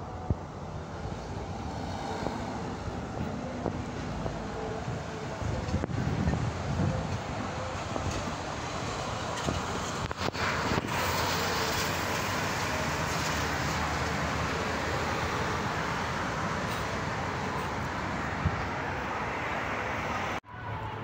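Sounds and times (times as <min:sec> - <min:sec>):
traffic rushing: 0:00.0 - 0:21.0.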